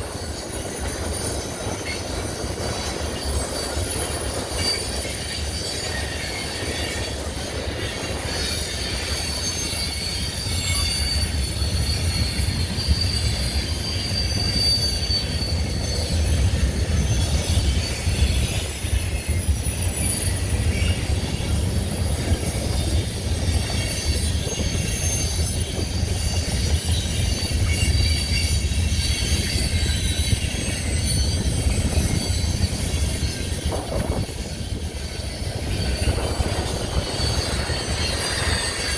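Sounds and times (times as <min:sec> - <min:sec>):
train cars rumbling: 0:00.0 - 0:38.9
high-pitched wheel squeal: 0:00.1 - 0:38.9.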